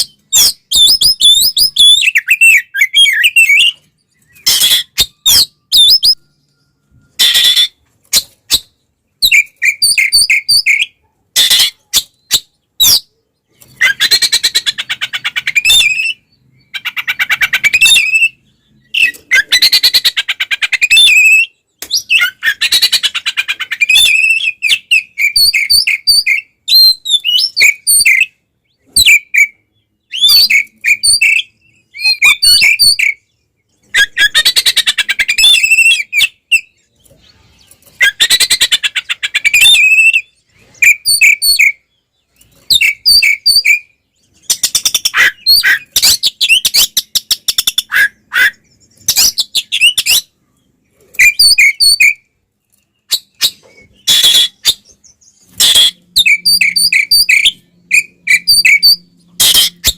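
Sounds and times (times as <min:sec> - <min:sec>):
bird whistles and chirps: 0:00.0 - 0:50.4, 0:51.1 - 0:59.9.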